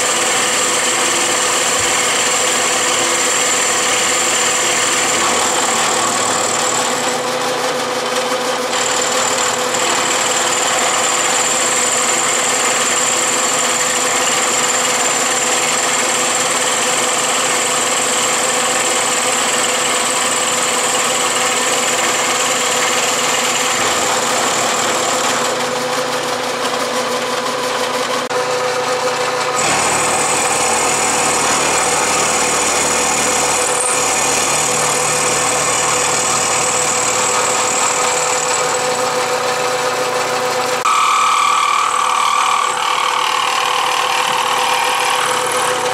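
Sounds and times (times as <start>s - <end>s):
milling machine cutting steel: 0.0s - 45.9s.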